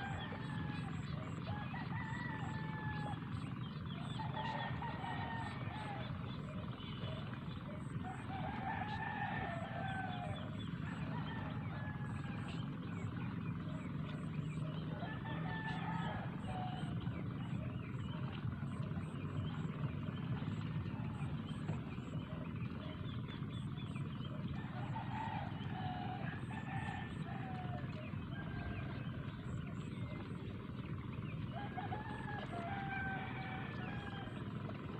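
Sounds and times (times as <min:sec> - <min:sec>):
roosters crowing: 0:00.0 - 0:06.2, 0:07.8 - 0:34.9
steady low rumble: 0:00.0 - 0:34.9.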